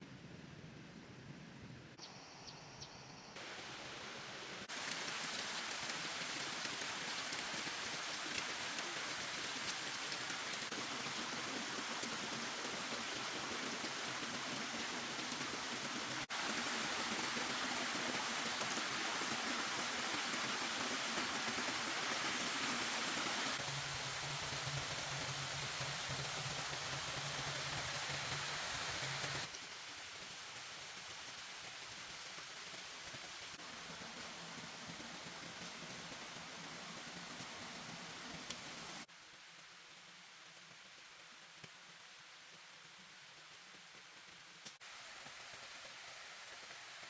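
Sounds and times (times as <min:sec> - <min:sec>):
steady rain falling: 0:03.4 - 0:47.0.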